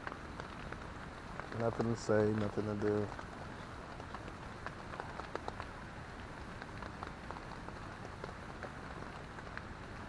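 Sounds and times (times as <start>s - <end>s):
rain hiss: 0.0s - 10.0s
raindrops ticking on a tent: 0.0s - 10.0s.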